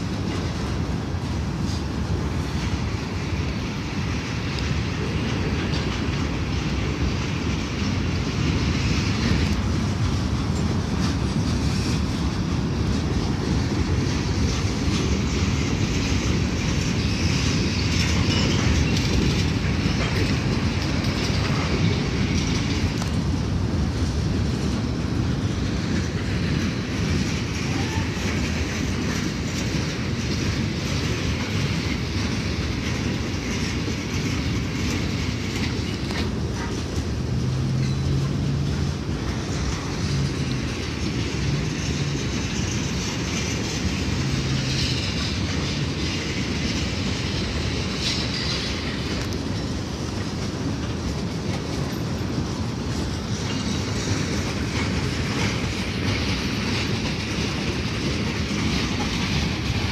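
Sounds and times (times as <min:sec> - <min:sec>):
freight train rumbling past: 0:00.0 - 0:59.9
wheels clattering on rails: 0:00.0 - 0:59.9.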